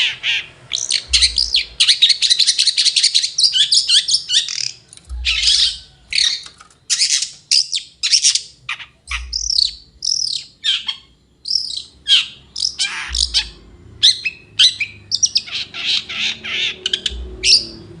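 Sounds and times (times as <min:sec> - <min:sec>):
bird chattering song: 0:00.0 - 0:18.0.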